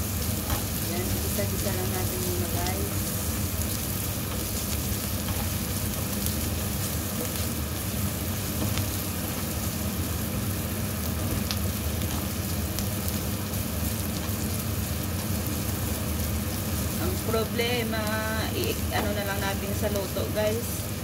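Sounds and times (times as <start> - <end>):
food sizzling in oil in a frying pan: 0.0 - 21.0
steady low hum: 0.0 - 21.0.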